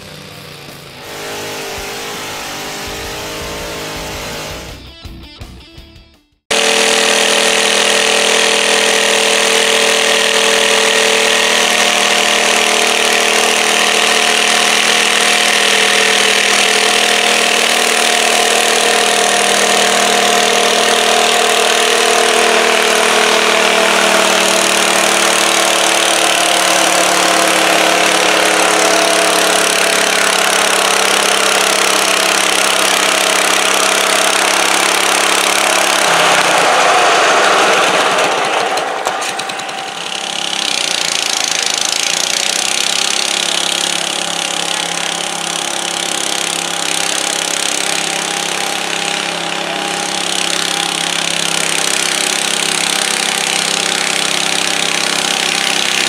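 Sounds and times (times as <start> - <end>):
garden tractor engine idling: 0.0 - 5.7, 6.5 - 56.0.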